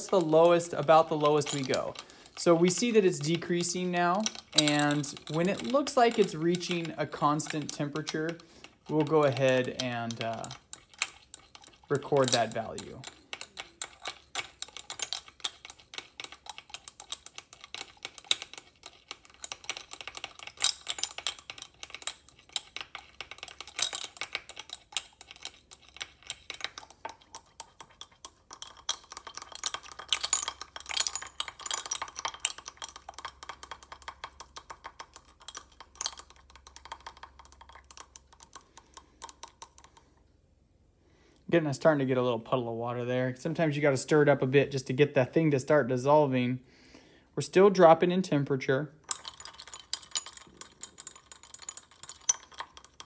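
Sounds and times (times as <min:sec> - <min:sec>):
ice and probe clinking in glass: 0:00.0 - 0:38.6, 0:49.0 - 0:53.0.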